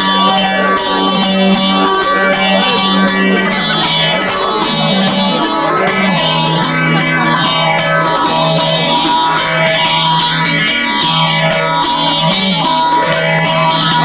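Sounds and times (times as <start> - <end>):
plucked saz melody: 0.0 - 14.0.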